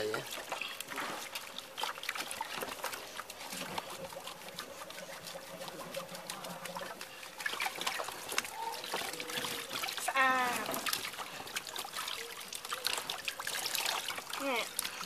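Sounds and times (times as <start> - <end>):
water splashing in plastic basin: 0.0 - 15.0.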